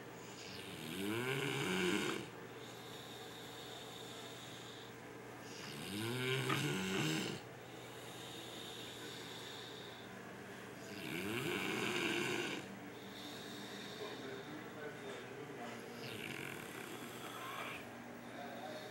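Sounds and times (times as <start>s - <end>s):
man snoring heavily: 0.2s - 10.1s, 10.8s - 14.5s, 16.0s - 17.9s.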